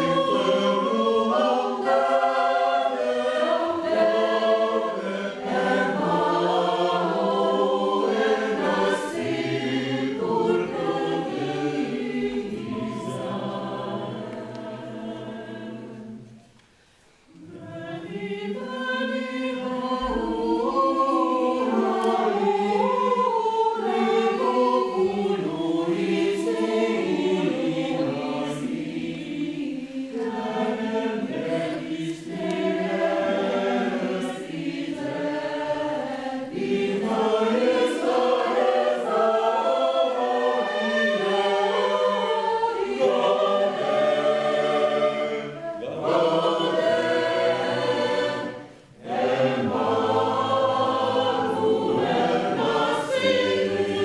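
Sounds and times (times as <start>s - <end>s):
mixed choir singing: 0.0s - 16.6s, 17.3s - 54.0s.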